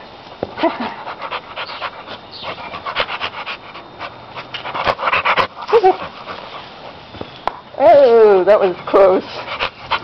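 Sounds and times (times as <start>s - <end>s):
dog panting fast: 0.7s - 7.0s, 8.1s - 10.0s.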